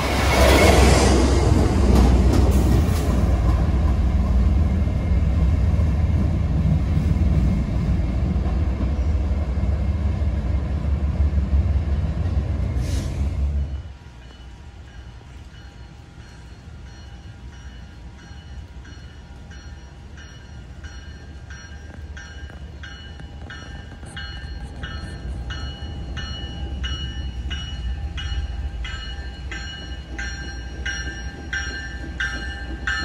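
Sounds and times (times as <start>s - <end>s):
commuter train passing: 0.0s - 33.0s.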